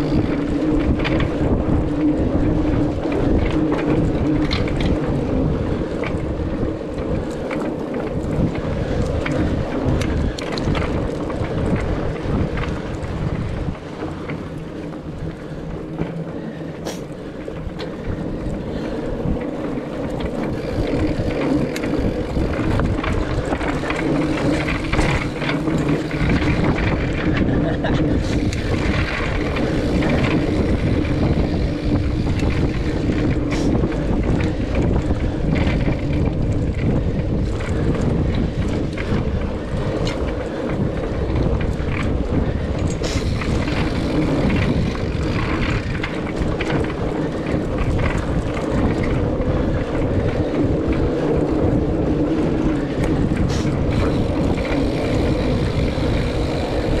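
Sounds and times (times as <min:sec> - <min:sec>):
bike tyres rumbling on dirt: 0:00.0 - 0:57.0
wind buffeting microphone: 0:00.0 - 0:57.0.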